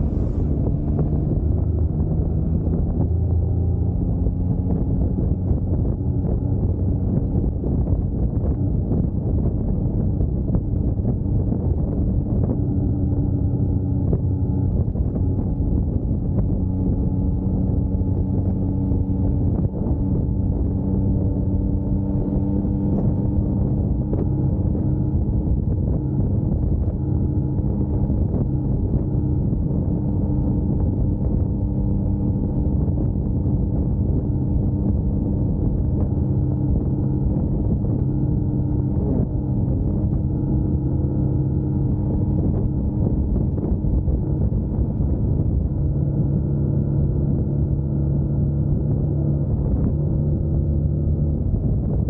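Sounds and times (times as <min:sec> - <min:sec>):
motorcycle engine cruising: 0:00.0 - 0:52.0
road noise: 0:00.0 - 0:52.0.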